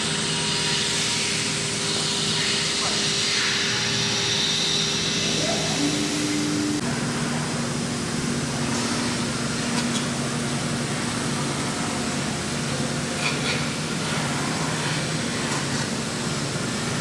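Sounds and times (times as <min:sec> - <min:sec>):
cnc router spindle humming: 0:00.0 - 0:17.0.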